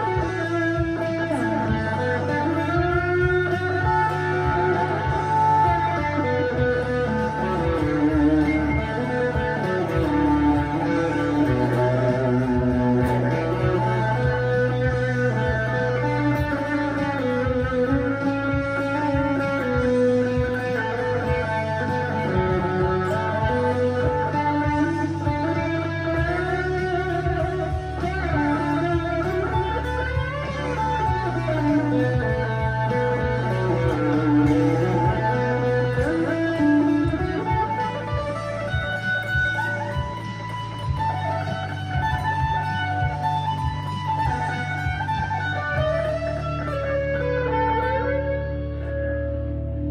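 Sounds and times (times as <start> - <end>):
overdriven electric guitar lead: 0.0 - 49.9
steady low backing part: 0.0 - 49.9.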